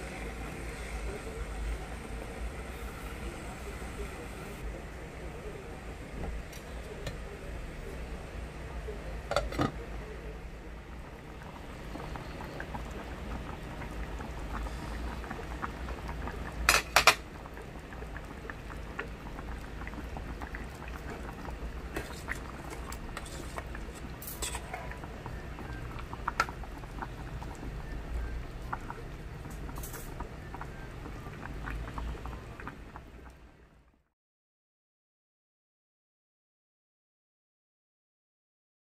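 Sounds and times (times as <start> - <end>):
stew simmering: 0.0 - 34.0.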